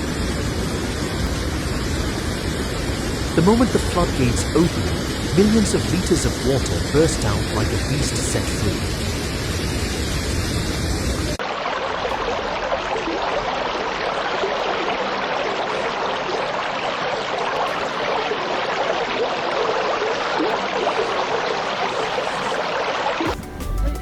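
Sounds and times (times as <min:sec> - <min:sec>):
fast water rushing: 0:00.0 - 0:23.9.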